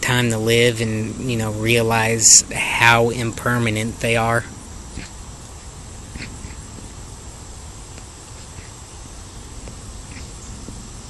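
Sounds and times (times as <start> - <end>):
low background rumble: 0.0 - 11.0
crickets trilling: 0.1 - 11.0.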